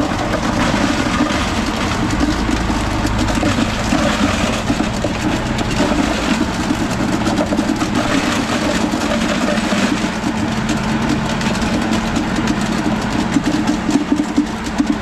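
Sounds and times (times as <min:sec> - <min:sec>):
engine idling with clatter: 0:00.0 - 0:15.0.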